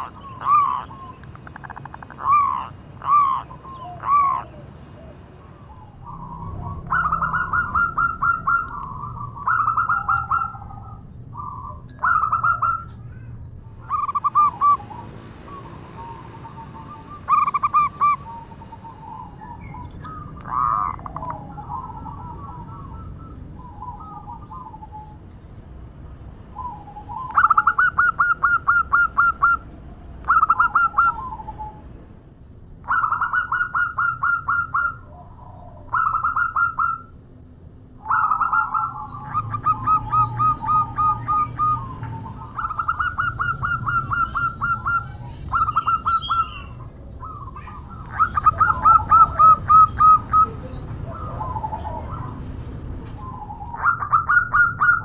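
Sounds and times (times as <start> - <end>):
dove giving staccato coo notes: 0.0 - 13.0, 13.8 - 25.1, 26.6 - 31.9, 32.9 - 37.1, 38.0 - 55.0.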